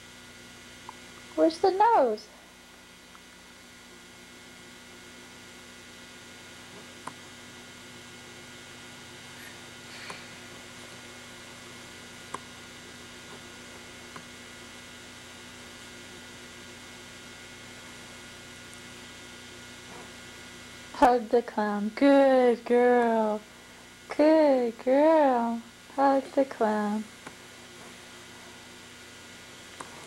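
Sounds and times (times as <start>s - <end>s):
mains hum and hiss: 0.0s - 30.0s.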